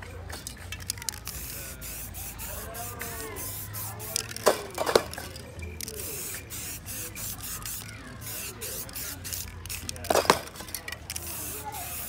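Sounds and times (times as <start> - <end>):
spray paint can hissing: 0.3 - 12.0.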